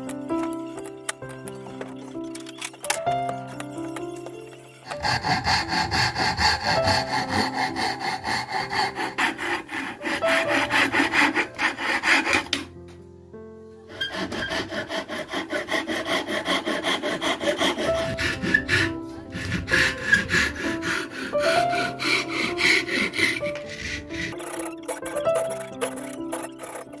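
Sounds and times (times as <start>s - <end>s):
hand saw cutting wood: 0.0s - 12.7s, 13.9s - 27.0s.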